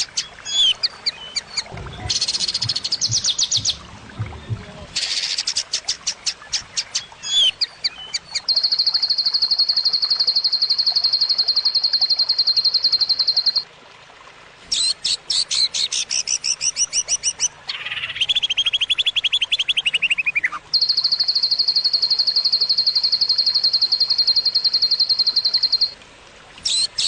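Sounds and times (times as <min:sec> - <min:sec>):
songbird notes and trills: 0:00.0 - 0:13.6, 0:14.7 - 0:26.0.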